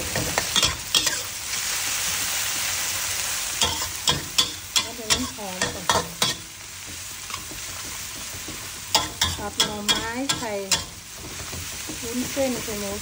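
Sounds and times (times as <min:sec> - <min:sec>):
spatula scraping and knocking wok: 0:00.0 - 0:02.2, 0:03.6 - 0:13.0
vegetables sizzling in hot oil: 0:00.0 - 0:13.0.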